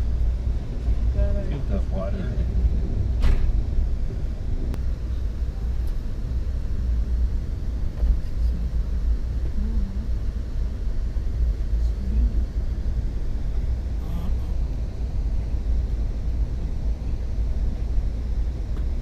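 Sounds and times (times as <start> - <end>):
passenger train rumbling: 0.0 - 19.0.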